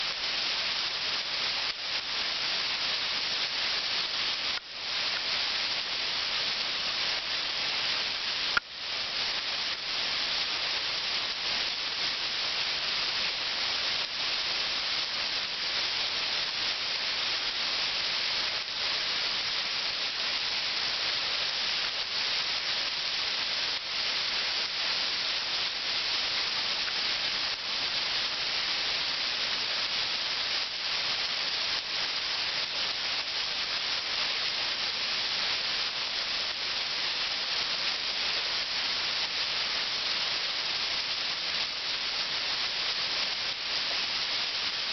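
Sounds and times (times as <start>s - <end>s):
waterfall splashing: 0.0s - 44.9s.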